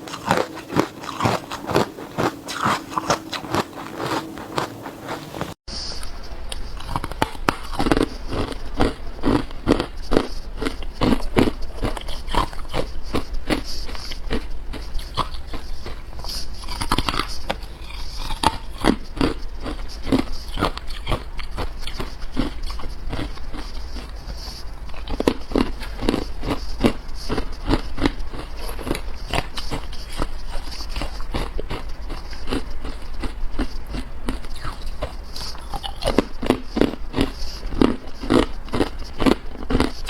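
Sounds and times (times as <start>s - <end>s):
crunching and chewing ice: 0.0s - 5.6s, 6.5s - 40.0s.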